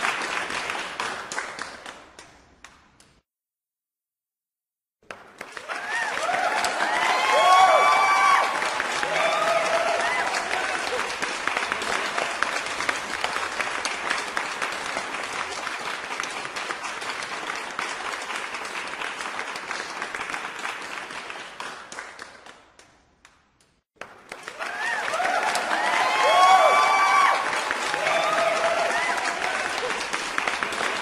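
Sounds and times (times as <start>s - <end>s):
crowd applauding: 0.0s - 2.3s, 5.0s - 22.9s, 24.0s - 31.0s.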